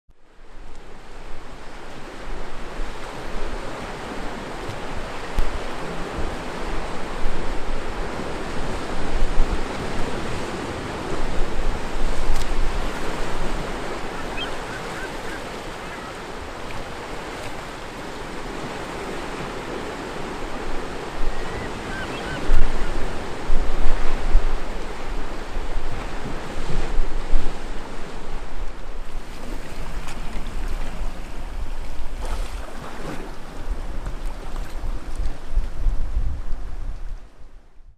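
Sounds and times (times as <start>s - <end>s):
ocean waves washing: 0.2s - 36.9s
wind gusting on microphone: 0.4s - 37.9s.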